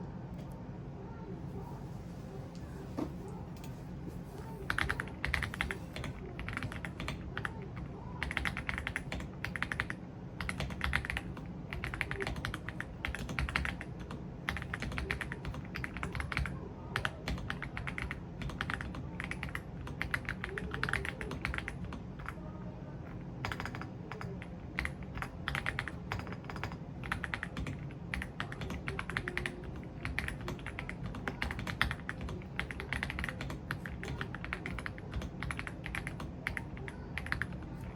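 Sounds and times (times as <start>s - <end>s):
mechanical keyboard typing: 4.6s - 22.4s, 23.1s - 37.9s.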